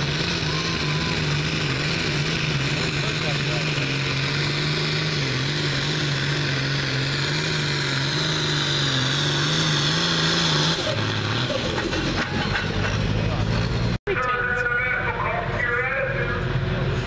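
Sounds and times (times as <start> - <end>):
diesel engine running hard: 0.0 - 17.0.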